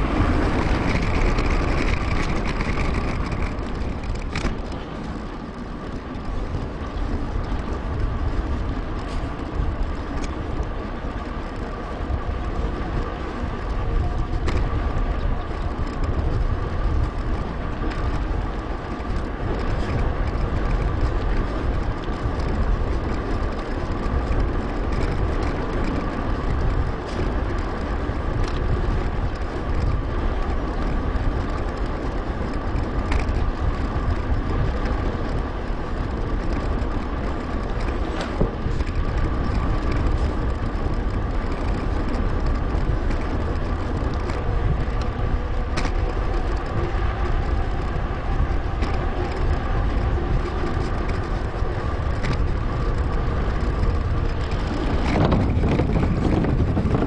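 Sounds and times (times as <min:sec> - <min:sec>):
bike tyres rumbling on pavement: 0:00.0 - 0:57.0
wind buffeting microphone: 0:00.0 - 0:57.0
scattered clicks: 0:00.5 - 0:10.7, 0:13.0 - 0:57.0.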